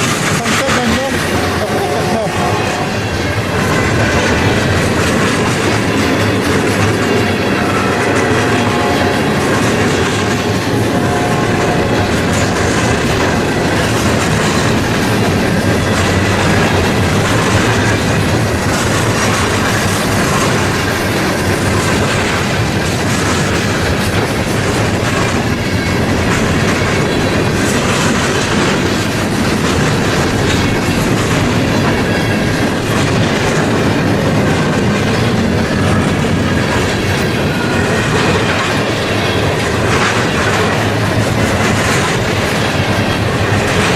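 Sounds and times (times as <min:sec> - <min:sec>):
freight train wheels clattering: 0:00.0 - 0:43.9.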